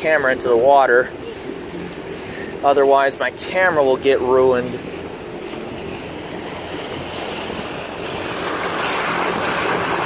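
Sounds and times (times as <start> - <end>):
boat engine humming low: 0.0 - 10.0
water splashing against boat hull: 0.0 - 10.0.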